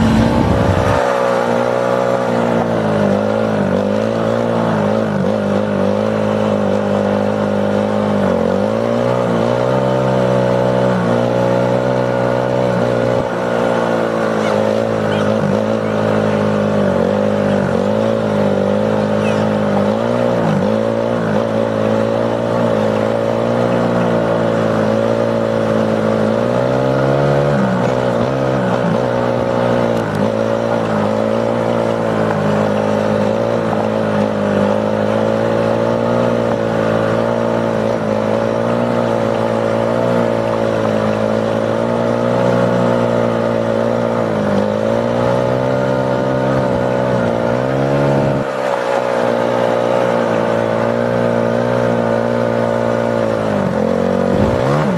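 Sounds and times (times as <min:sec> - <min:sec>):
atv engine revving: 0:00.0 - 0:54.9.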